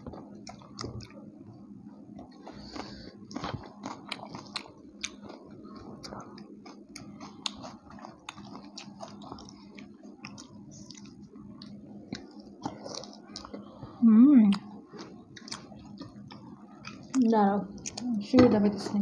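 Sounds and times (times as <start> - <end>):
close-up chewing and biting: 0.0 - 1.2, 2.2 - 13.8, 14.5 - 17.2.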